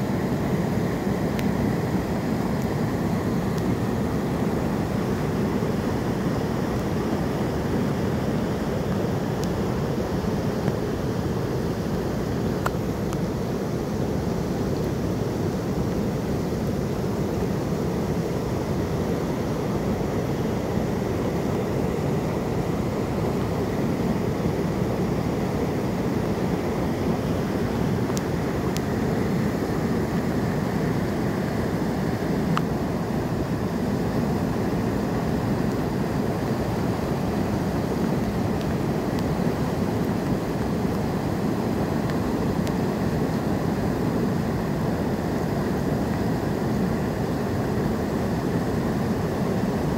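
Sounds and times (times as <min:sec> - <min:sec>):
river rushing over weir: 0:00.0 - 0:49.9.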